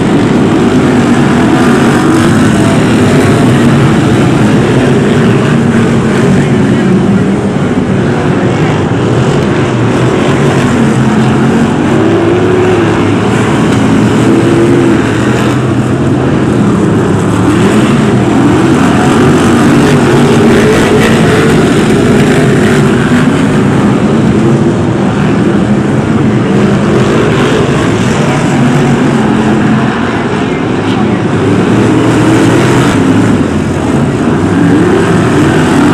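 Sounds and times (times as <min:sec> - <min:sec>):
racing car engines: 0:00.0 - 0:35.9.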